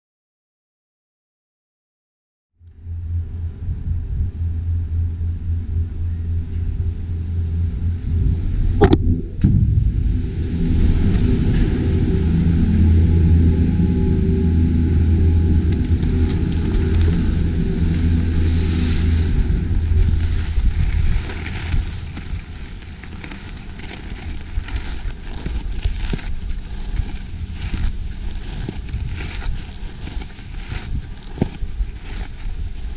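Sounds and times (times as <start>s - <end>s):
wind buffeting microphone: 2.8s - 32.9s
skis rumbling on snow: 5.6s - 32.9s.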